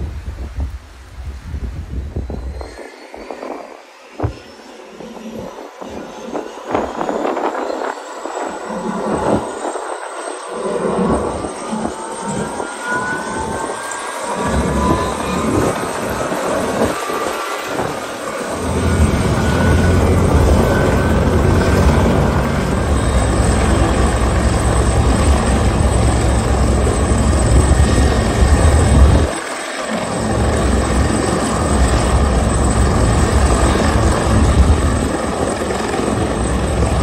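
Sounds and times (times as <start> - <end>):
helicopter turbine whine: 0.0 - 37.0
wind buffeting microphone: 0.0 - 37.0.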